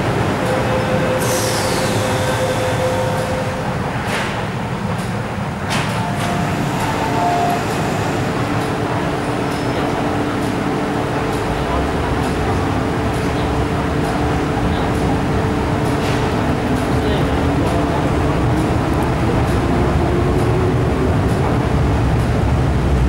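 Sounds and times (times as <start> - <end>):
electric train rumble: 0.0 - 23.0.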